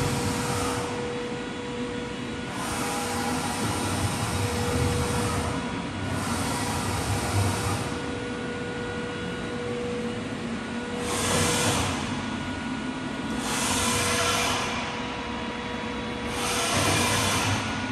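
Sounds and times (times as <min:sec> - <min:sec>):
milling machine hum: 0:00.0 - 0:17.9.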